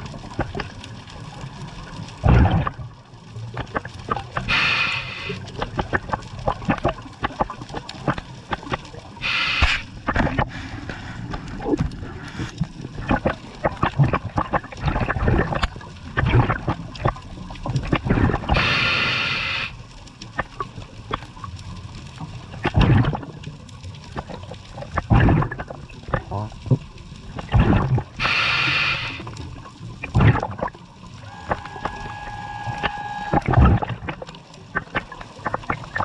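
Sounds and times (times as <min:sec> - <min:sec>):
diver's regulator bubbles: 0:00.0 - 0:36.0
underwater crackling and clicking: 0:00.0 - 0:36.0.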